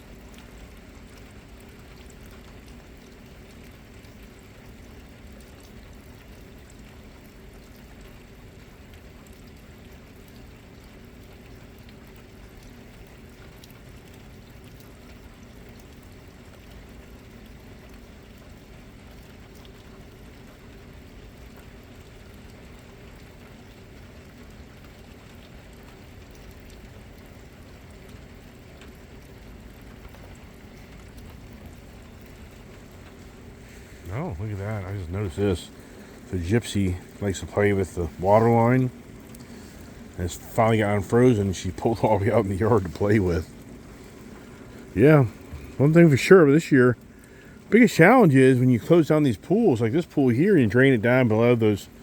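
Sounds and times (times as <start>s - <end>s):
steady rain: 0.0s - 52.0s
water running and pouring: 0.0s - 52.0s.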